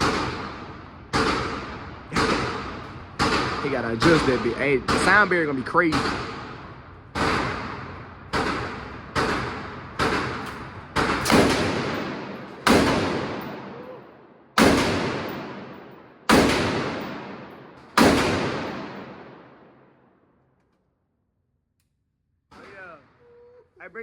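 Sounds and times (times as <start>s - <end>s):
rifle shots echoing: 0.0s - 19.9s.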